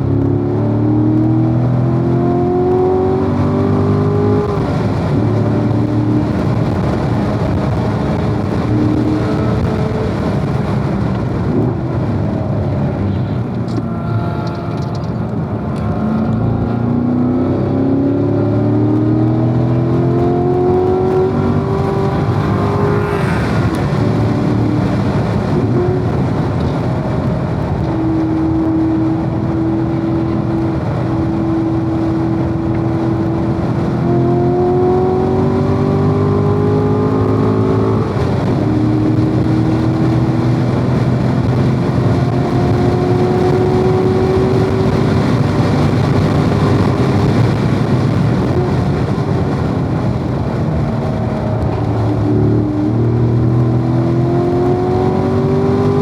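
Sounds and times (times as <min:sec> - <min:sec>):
road and wind noise: 0:00.0 - 0:56.0
sports car engine accelerating: 0:00.0 - 0:56.0.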